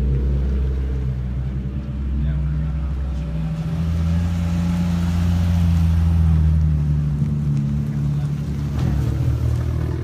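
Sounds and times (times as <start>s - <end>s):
car engines driving past: 0.0s - 10.0s.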